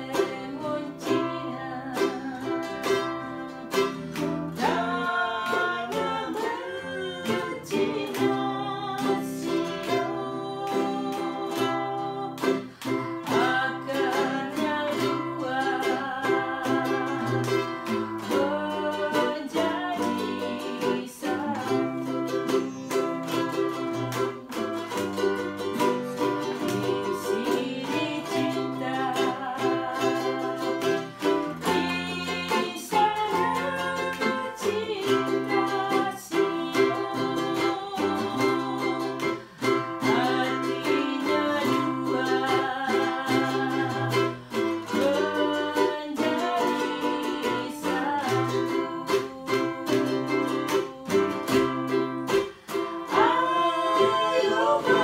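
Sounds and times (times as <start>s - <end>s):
ukulele and guitar strumming: 0.0s - 55.0s
woman singing: 0.0s - 55.0s.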